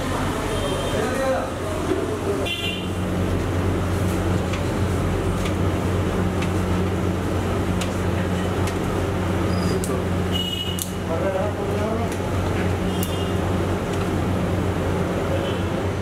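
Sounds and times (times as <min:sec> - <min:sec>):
kitchen machinery drone: 0:00.0 - 0:16.0.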